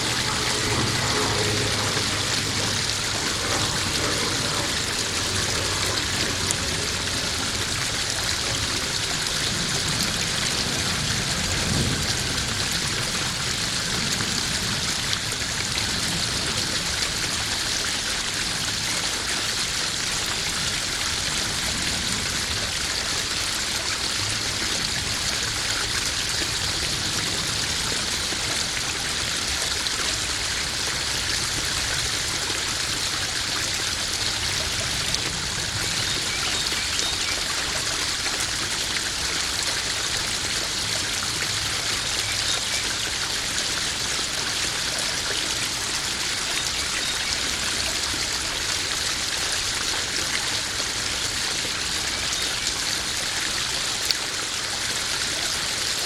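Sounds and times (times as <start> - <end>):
water splashing and trickling: 0.0 - 56.0.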